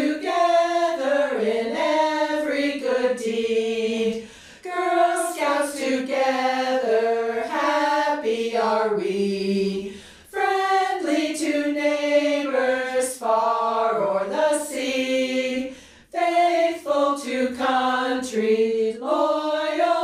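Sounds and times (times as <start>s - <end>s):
women singing in harmony: 0.0s - 20.0s.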